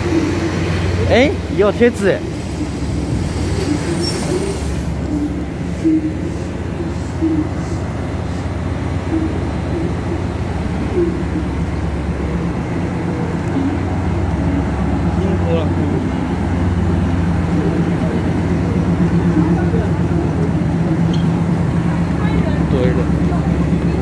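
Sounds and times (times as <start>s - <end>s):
diesel train engines idling: 0.0s - 24.0s.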